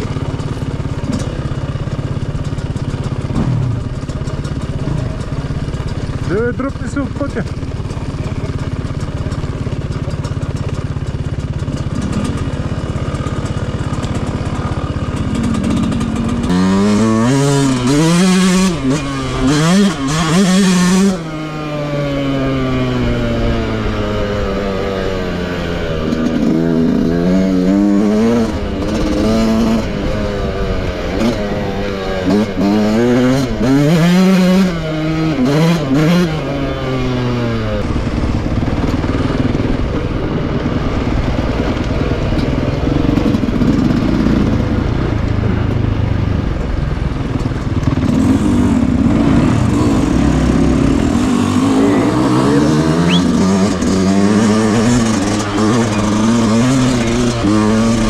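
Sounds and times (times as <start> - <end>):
motocross engine revving: 0.0 - 45.6, 47.2 - 58.0.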